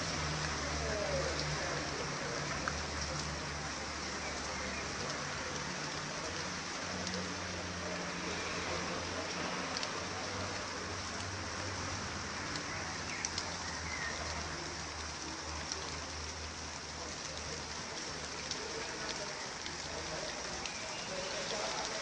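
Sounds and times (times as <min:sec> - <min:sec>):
rain falling: 0:00.0 - 0:22.0
raindrops ticking on surfaces: 0:00.0 - 0:22.0.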